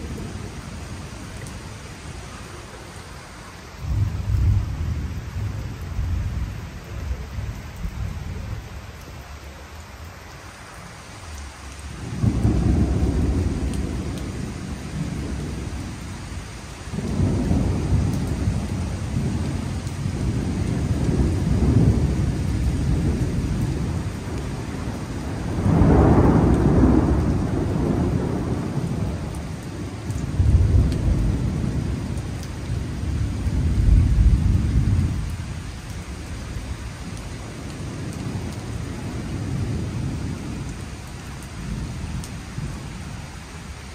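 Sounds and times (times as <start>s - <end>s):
rain hissing: 0.0s - 43.9s
thunder rumbling: 3.8s - 8.8s, 11.8s - 43.9s.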